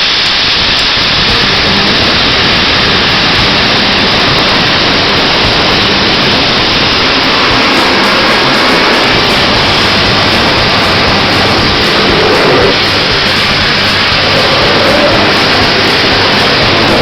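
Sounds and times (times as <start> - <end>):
diesel locomotive engine hissing: 0.0 - 17.0.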